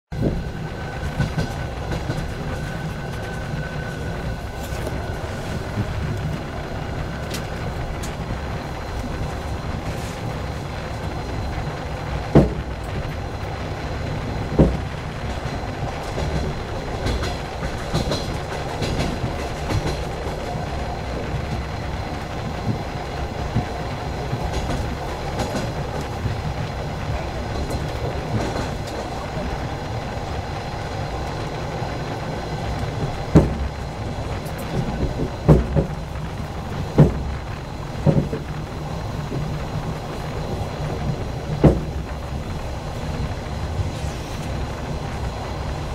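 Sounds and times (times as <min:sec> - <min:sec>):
train wheels running on rails: 0:00.1 - 0:45.9
wheels clacking over rail joints: 0:00.1 - 0:45.9.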